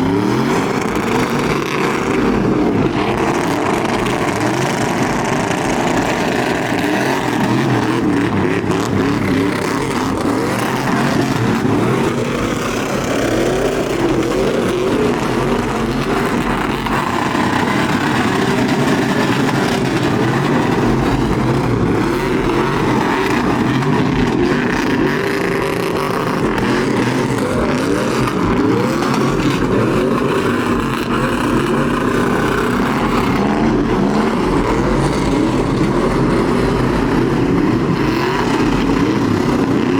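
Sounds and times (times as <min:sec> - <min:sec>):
truck engines revving: 0:00.0 - 0:39.9.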